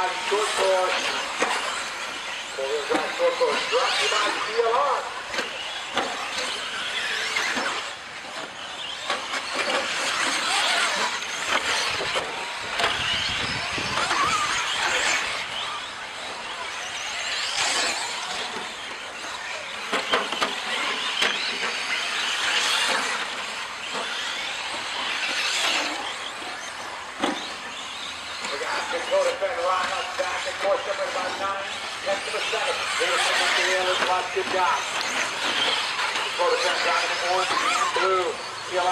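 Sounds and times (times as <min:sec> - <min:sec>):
rc truck motors whining: 0:00.0 - 0:38.9.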